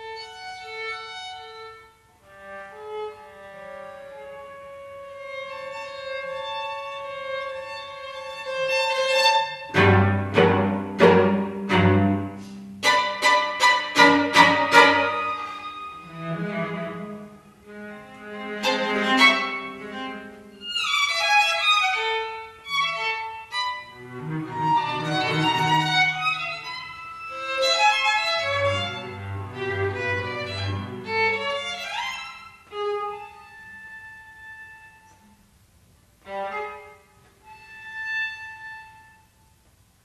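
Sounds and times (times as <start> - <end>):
string trio playing chamber music: 0.0 - 35.4.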